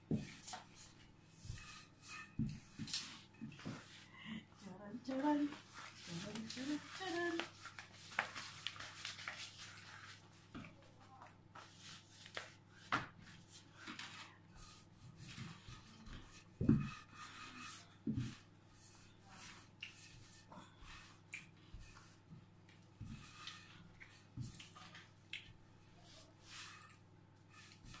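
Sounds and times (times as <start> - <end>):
dough rubbing on pastry mat: 0.1 - 25.1, 25.8 - 28.0.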